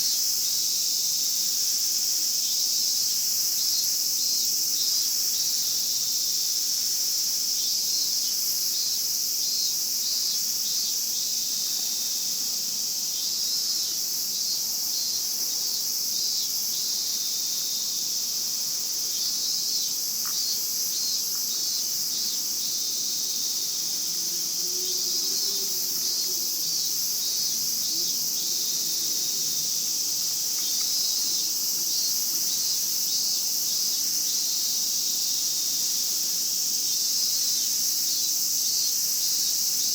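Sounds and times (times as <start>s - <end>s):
cicadas droning: 0.0s - 39.9s
pulsing cicada calls: 0.0s - 39.9s.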